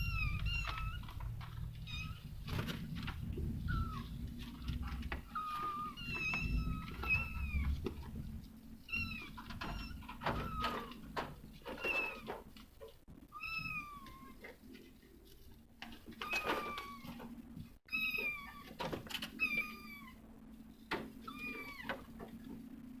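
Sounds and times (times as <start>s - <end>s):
cats mewing: 0.0s - 12.5s, 13.3s - 14.6s, 16.0s - 20.3s, 20.9s - 22.4s.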